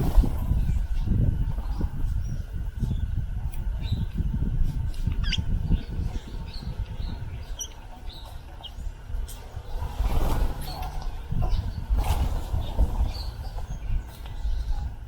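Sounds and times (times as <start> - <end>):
loud uneven low rumble: 0.0 - 15.0
small birds chirping: 0.0 - 15.0.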